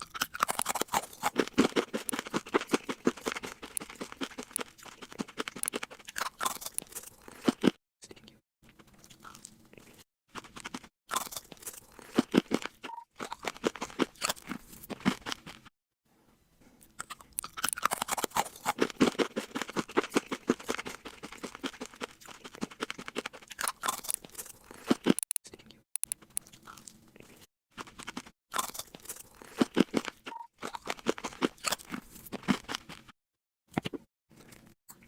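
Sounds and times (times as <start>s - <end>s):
chewing crunchy food: 0.0s - 15.7s, 16.6s - 35.0s.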